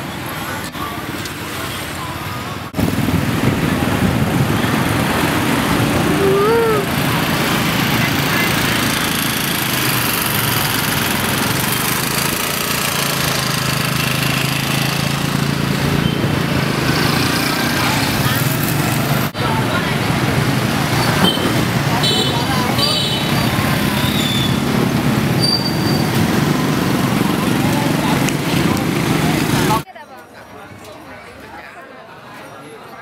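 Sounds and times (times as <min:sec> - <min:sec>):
traffic rushing noise: 0:00.0 - 0:29.8.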